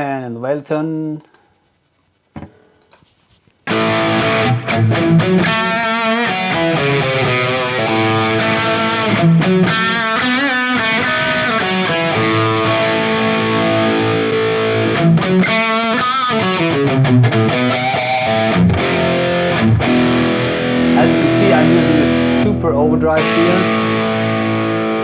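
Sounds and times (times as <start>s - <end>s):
distorted electric guitar lead: 3.6s - 25.0s.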